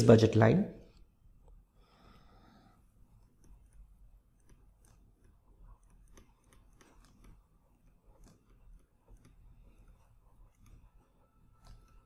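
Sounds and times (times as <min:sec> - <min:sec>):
stylus clicking on tablet screen: 0:00.9 - 0:12.0.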